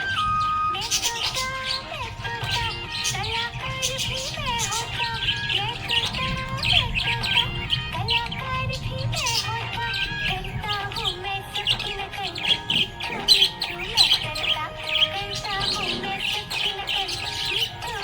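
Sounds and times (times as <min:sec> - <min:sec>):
budgerigars chirping and warbling: 0:00.0 - 0:18.0.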